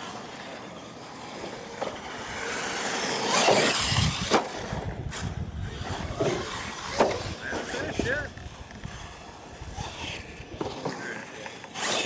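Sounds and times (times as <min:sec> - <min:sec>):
remote control truck motors: 0:00.0 - 0:12.0.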